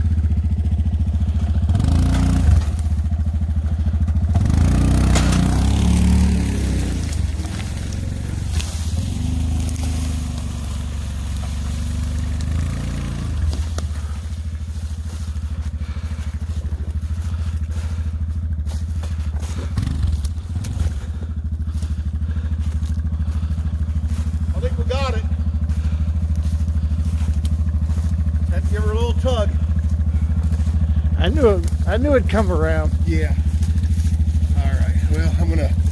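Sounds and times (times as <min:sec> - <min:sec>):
engine working under load: 0:00.0 - 0:35.9.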